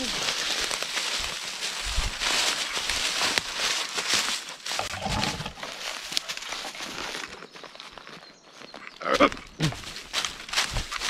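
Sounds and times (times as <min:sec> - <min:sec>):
footsteps through dry forest litter: 0:00.0 - 0:11.0.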